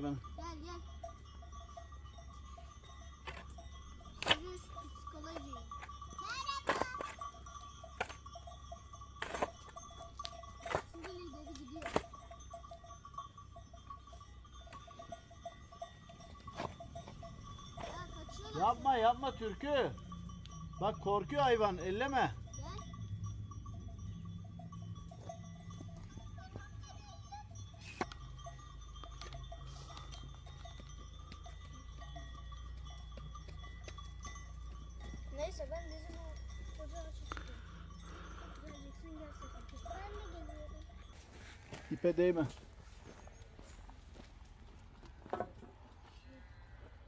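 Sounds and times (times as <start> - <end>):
livestock bells clinking: 0.0 - 47.0.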